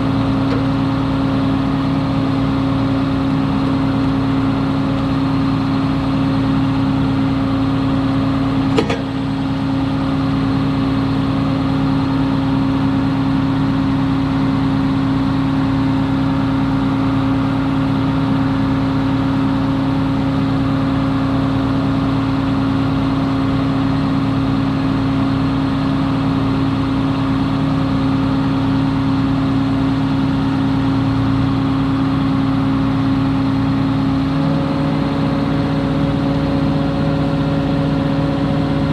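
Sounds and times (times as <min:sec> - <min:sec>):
large engine humming: 0:00.0 - 0:38.9.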